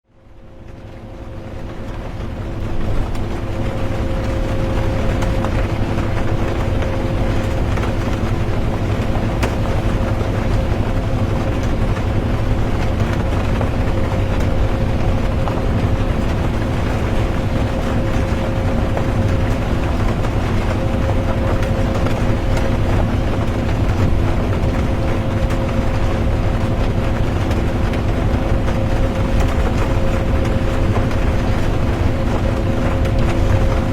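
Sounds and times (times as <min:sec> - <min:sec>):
bus engine and road rumble: 0:00.2 - 0:33.9
constant drone: 0:00.2 - 0:33.9
drivetrain hum: 0:01.3 - 0:33.9.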